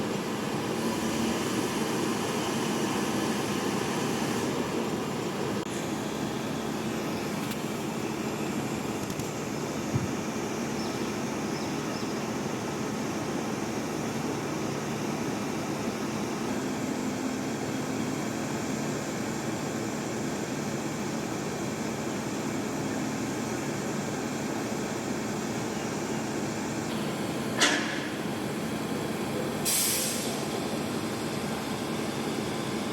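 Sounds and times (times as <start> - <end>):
heavy machine engine drone: 0.0 - 32.9.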